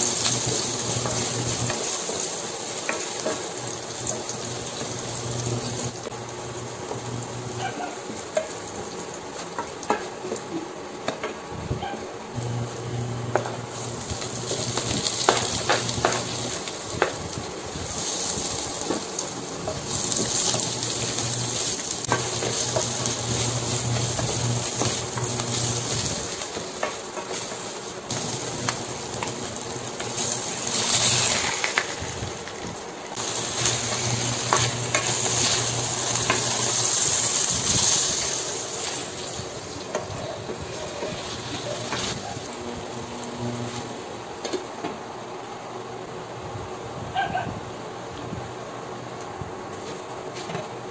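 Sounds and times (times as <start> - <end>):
food sizzling in hot oil: 0.0 - 11.2, 12.3 - 44.3.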